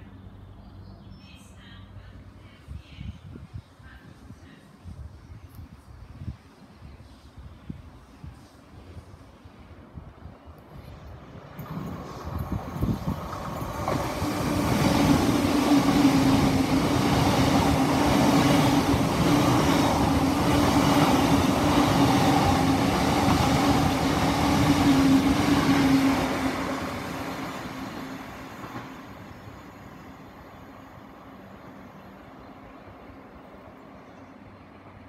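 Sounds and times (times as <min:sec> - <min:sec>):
high-speed train passing: 0:01.5 - 0:35.0.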